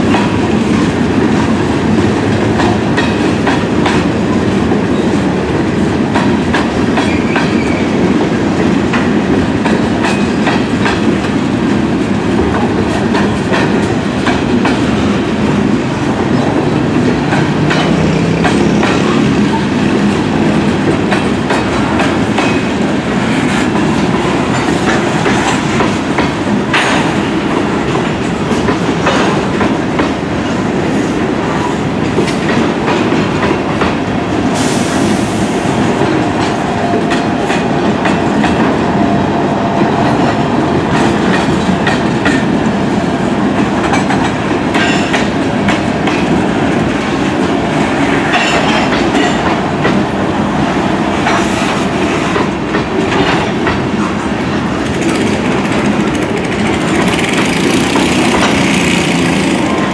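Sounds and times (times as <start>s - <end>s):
freight train wheels clacking: 0.0s - 59.9s.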